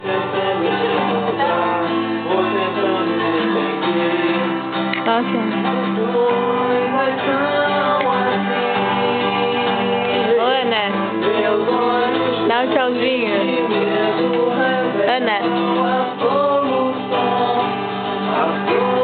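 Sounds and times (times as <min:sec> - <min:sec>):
acoustic guitar: 0:00.0 - 0:19.0
person singing: 0:00.0 - 0:19.0.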